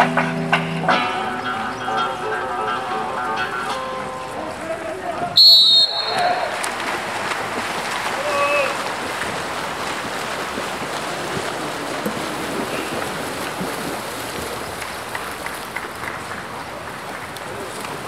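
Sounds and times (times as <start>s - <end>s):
swimmers splashing water: 0.0s - 18.0s.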